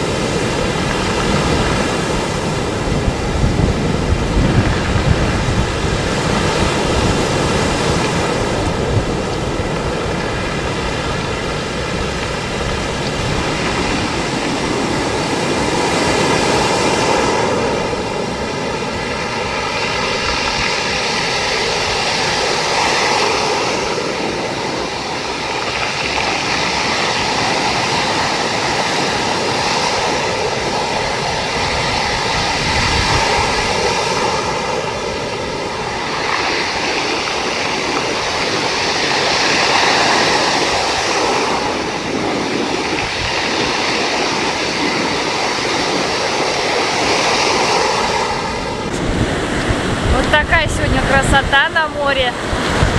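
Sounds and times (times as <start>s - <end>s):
sea surf roaring: 0.0s - 52.9s
wind buffeting microphone: 0.0s - 52.9s.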